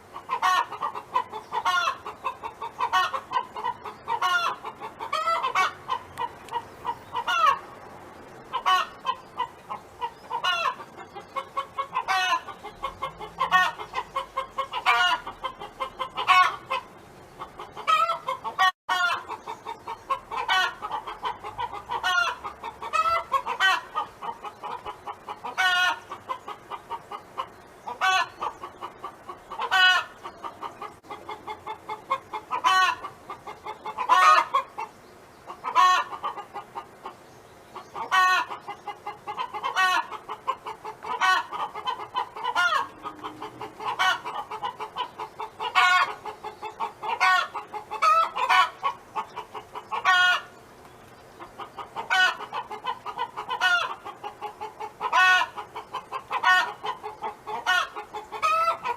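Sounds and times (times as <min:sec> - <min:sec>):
hen clucking: 0:00.0 - 0:07.8, 0:08.5 - 0:58.9.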